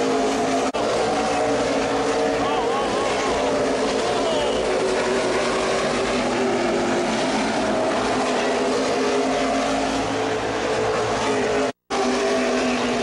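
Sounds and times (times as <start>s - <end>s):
racing car engines: 0.0s - 13.0s.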